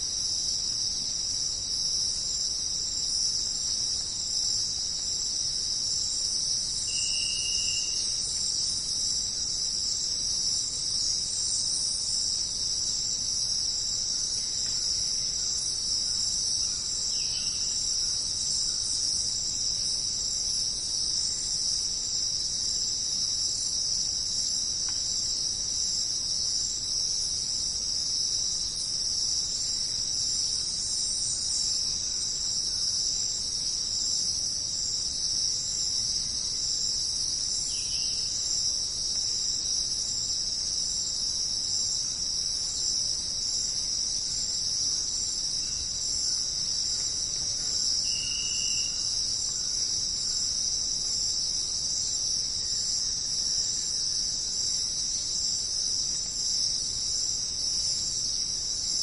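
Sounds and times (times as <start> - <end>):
jungle insects chirring: 0.0 - 59.0.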